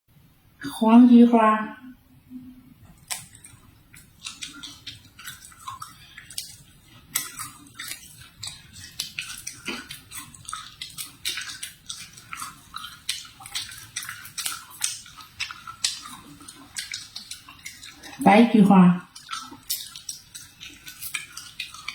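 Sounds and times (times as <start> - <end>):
chewing crunchy food: 2.8 - 18.2, 19.0 - 21.9.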